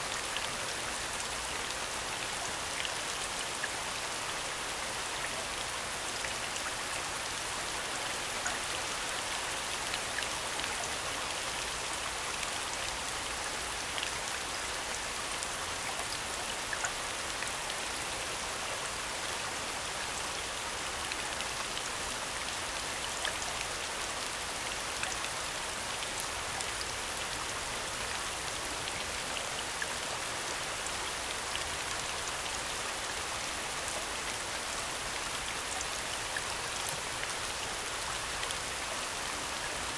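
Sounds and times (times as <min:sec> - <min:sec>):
steady falling rain: 0:00.0 - 0:39.9.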